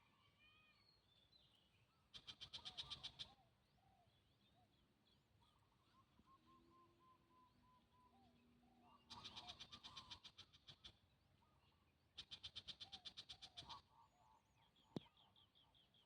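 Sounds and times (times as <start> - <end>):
soft bird chirps: 0.6 - 16.0.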